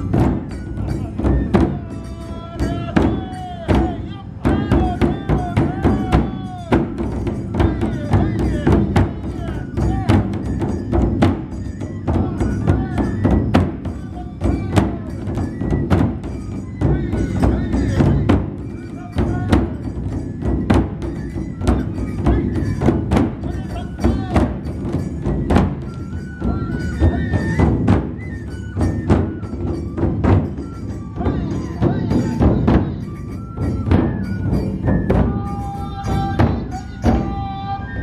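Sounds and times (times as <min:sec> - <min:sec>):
bamboo flute melody: 0:00.0 - 0:38.0
drums beaten in steady rhythm: 0:00.0 - 0:38.0.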